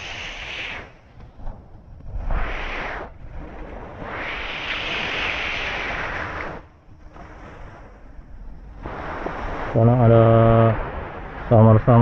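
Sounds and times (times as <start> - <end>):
wind buffeting microphone: 0.0 - 12.0
sea waves breaking on shore: 2.2 - 12.0.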